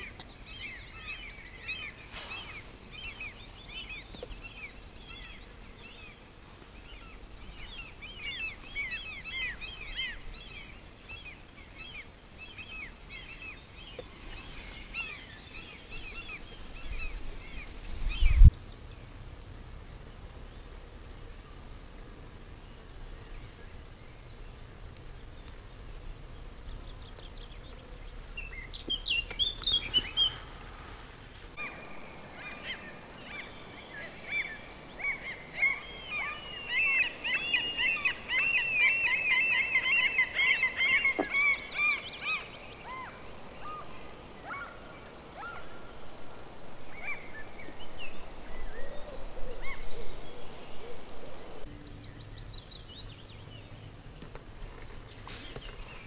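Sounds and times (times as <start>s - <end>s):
birds singing and calling: 0.0s - 19.8s, 26.6s - 30.5s, 31.6s - 54.4s.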